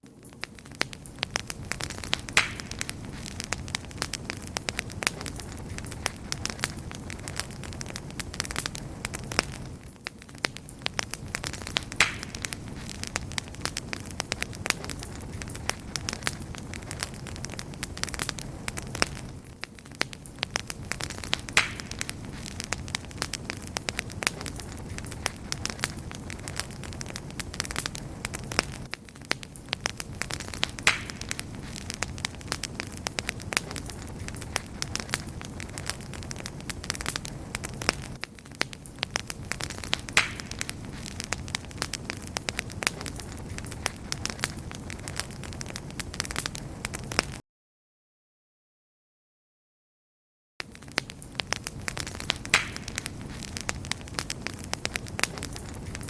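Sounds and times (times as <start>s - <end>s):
wood fire crackling and popping: 0.0s - 47.4s, 50.6s - 56.0s.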